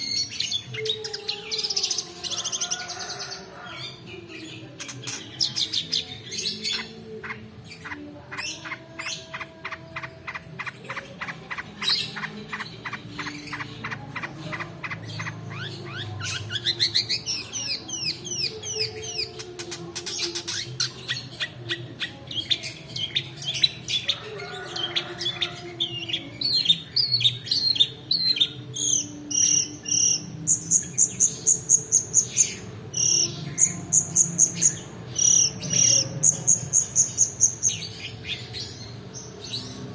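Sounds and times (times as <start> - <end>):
bird song trills: 0.0 - 39.9.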